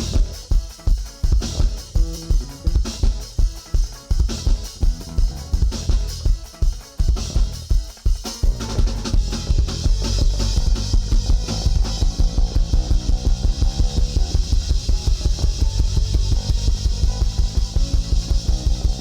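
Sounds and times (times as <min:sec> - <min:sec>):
band music with drums and bass: 0:00.0 - 0:19.0.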